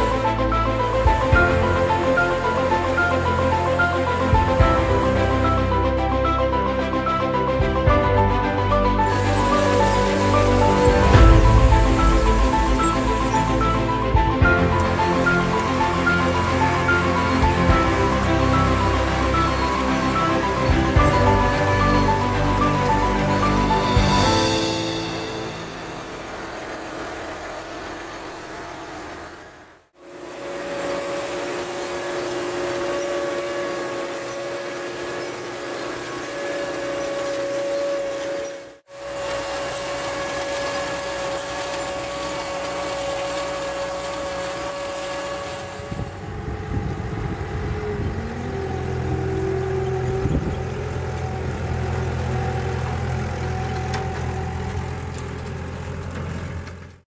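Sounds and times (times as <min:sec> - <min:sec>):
steady whine: 0:00.0 - 0:55.3
tractor engine running: 0:00.0 - 0:57.0.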